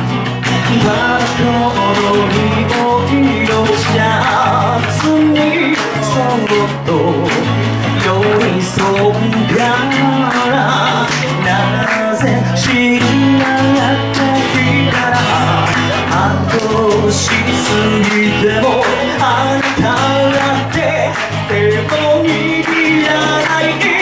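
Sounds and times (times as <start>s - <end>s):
bass line: 0.0s - 24.0s
person singing: 0.0s - 24.0s
strummed guitar: 0.0s - 24.0s.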